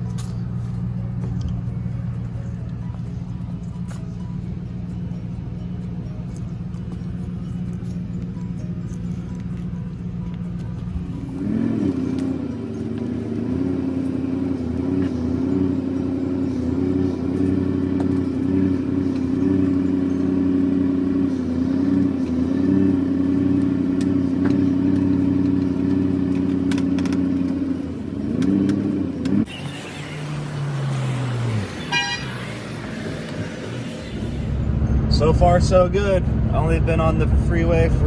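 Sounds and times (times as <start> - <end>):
vehicle engine under load: 0.0 - 38.0.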